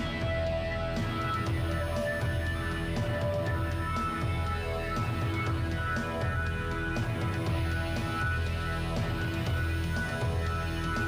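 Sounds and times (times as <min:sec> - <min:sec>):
instrumental soundtrack music: 0:00.0 - 0:11.0.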